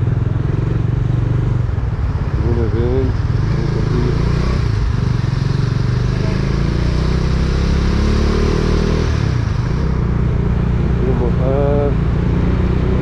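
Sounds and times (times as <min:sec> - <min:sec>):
vehicle engine running: 0:00.0 - 0:07.1, 0:09.1 - 0:12.5
wind and road noise: 0:00.0 - 0:13.0.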